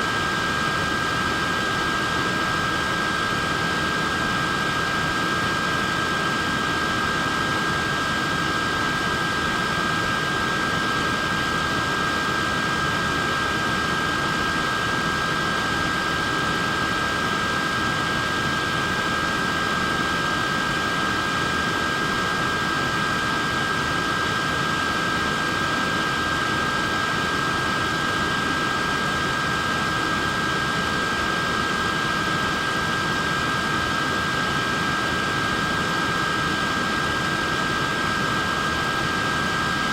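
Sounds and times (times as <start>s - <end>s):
high-pitched motor whine: 0.0s - 39.9s.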